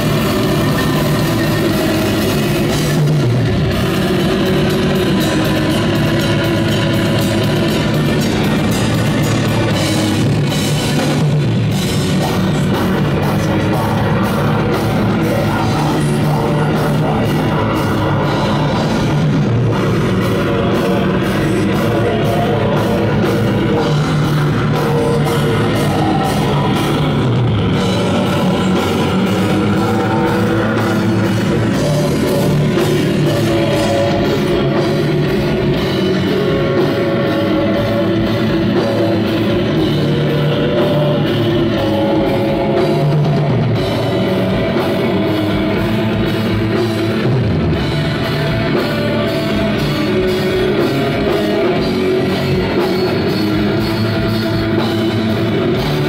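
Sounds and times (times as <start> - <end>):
distorted guitars: 0.0 - 56.0
drumbeat: 0.0 - 56.0.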